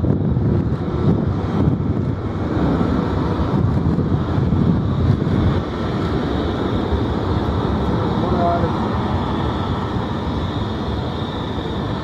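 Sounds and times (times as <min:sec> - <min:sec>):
faint high jet whine: 0:00.0 - 0:12.0
jet engines rumbling: 0:00.0 - 0:12.0
wind buffeting microphone: 0:00.0 - 0:12.0.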